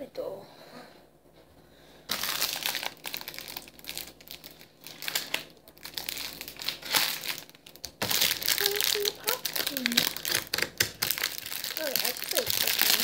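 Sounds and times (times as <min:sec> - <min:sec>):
plastic package crinkling: 0:02.1 - 0:13.0.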